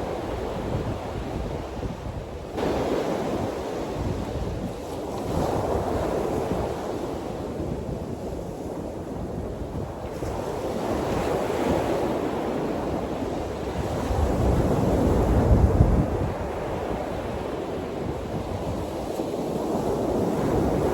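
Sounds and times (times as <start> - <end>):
waves washing onto shore: 0.0 - 20.9
wind buffeting microphone: 0.0 - 20.9.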